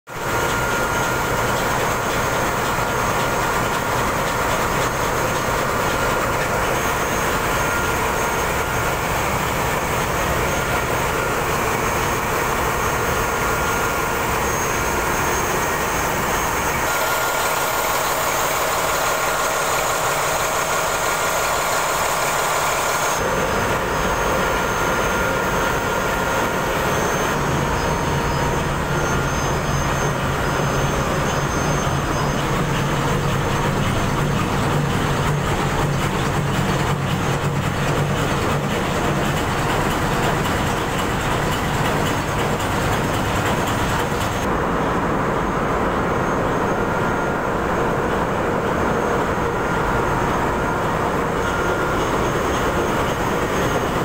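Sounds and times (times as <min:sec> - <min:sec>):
diesel engine room din: 0:00.0 - 0:54.0
thin high whines: 0:00.2 - 0:39.1, 0:43.5 - 0:54.0.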